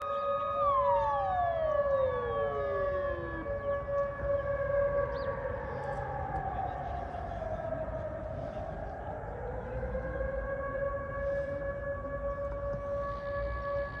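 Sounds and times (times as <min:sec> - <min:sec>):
siren steady tones: 0:00.0 - 0:14.0.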